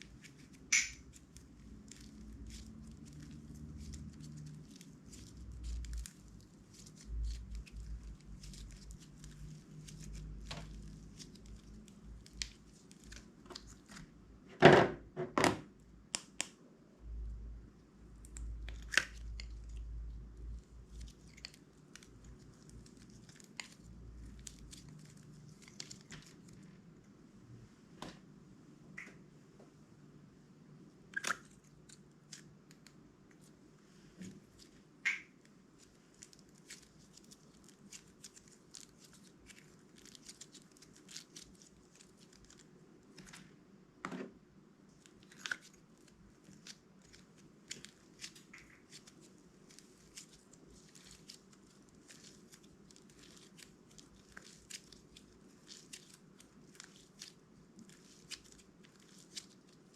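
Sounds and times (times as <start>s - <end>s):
sticky slime crackles: 0.0s - 14.2s, 18.0s - 27.0s, 31.1s - 43.4s, 44.9s - 59.9s.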